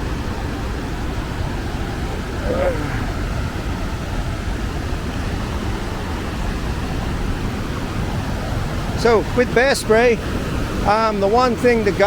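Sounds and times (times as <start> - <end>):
river rushing: 0.0 - 12.0
wind buffeting microphone: 0.0 - 12.0.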